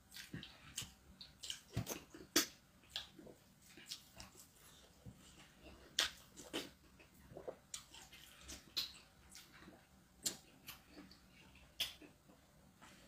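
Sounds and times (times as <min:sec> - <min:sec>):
person chewing with mouth smacks: 0:00.1 - 0:13.0.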